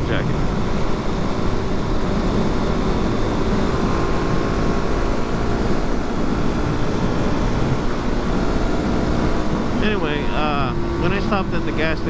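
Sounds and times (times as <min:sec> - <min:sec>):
motorcycle engine drone: 0:00.0 - 0:12.0
wind rush: 0:00.0 - 0:12.0.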